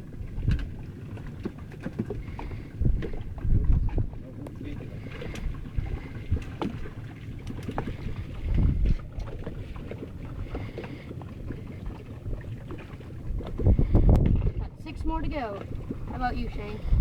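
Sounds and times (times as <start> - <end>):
wind buffeting microphone: 0.0 - 1.2, 1.9 - 17.0.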